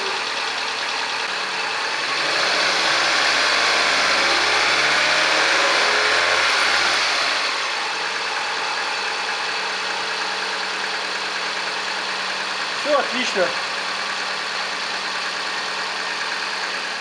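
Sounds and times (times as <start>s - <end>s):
petrol engine revving and idling: 0.0s - 17.0s.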